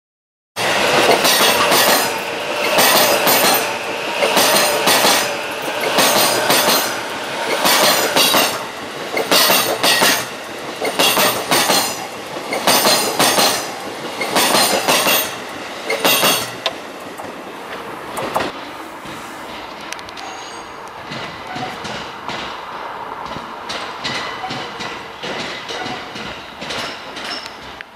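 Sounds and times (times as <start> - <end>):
electric train passing: 0.6 - 27.9
train wheels ringing on rail: 0.6 - 27.9.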